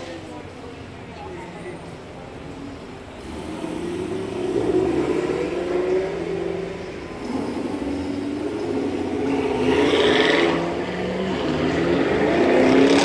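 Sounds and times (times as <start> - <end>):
sports car engines revving: 2.3 - 13.0.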